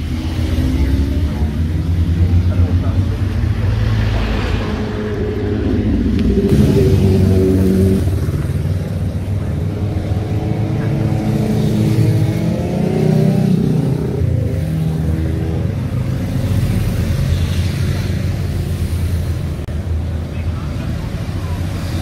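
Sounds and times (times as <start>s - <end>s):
motorcycles revving up: 0.0s - 19.4s
motorcycles riding past: 0.0s - 19.4s
car traffic: 0.0s - 22.0s.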